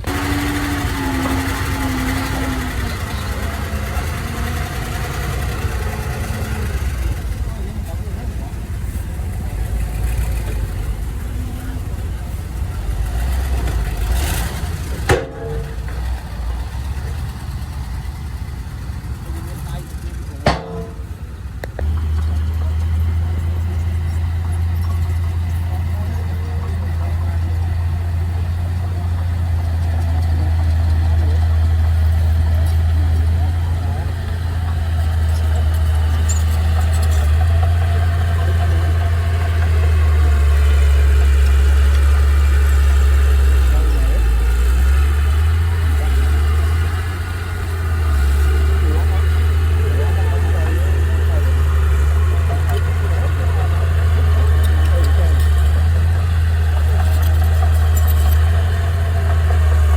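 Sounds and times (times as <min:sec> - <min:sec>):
heavy vehicle engine rumbling: 0:00.0 - 0:59.9.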